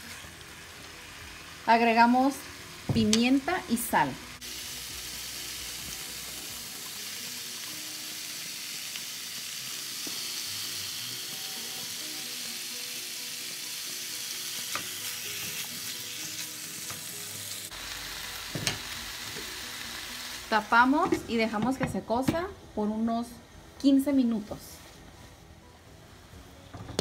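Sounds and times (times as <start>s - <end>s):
meat sizzling in frying pan: 0.0s - 21.7s.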